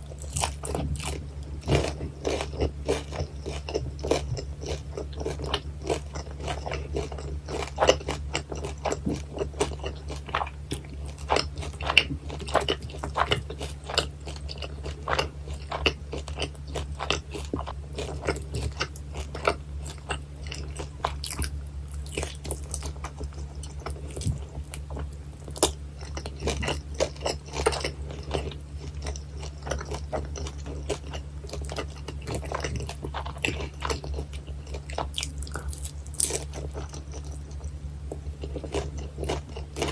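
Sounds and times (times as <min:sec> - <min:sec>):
crunchy food chewing: 0:00.0 - 0:39.9
steady low hum: 0:00.0 - 0:39.9.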